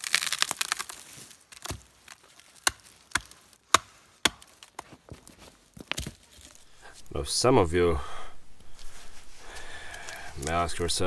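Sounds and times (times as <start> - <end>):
wood splintering crackle: 0.0 - 7.2, 8.4 - 10.8.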